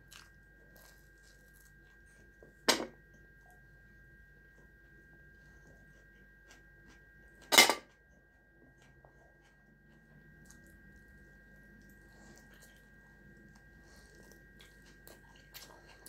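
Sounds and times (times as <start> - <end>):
eating meat by hand: 0.0 - 7.3, 8.5 - 16.0.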